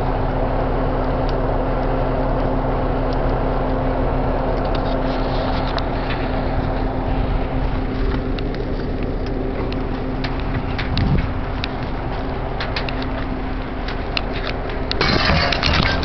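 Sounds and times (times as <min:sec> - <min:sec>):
large fire roaring: 0:00.0 - 0:16.0
vehicle engine humming: 0:00.0 - 0:16.0
fire crackling and popping: 0:00.1 - 0:16.0.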